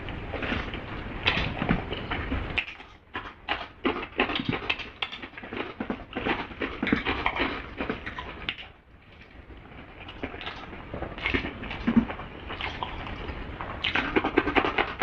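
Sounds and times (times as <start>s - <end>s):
chewing and crunching: 0.0s - 15.0s.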